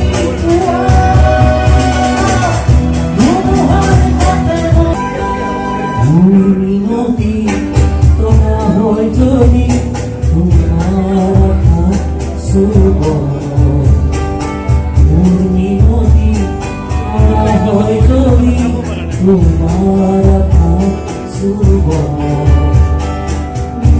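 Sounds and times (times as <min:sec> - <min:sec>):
acoustic guitar strumming: 0:00.0 - 0:23.9
man singing: 0:00.0 - 0:23.9.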